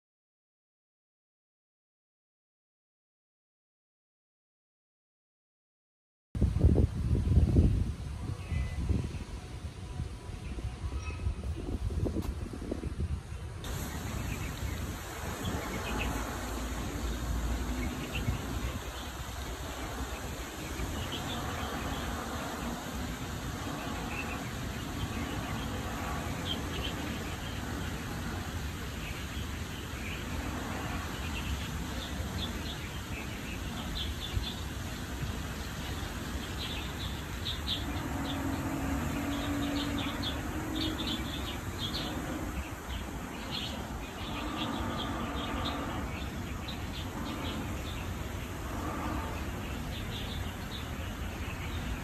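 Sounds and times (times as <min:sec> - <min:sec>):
steady low rumble: 0:06.4 - 0:52.0.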